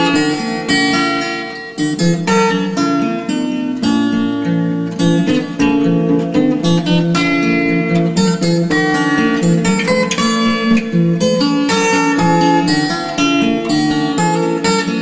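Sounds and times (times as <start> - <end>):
acoustic guitar instrumental music: 0.0 - 15.0.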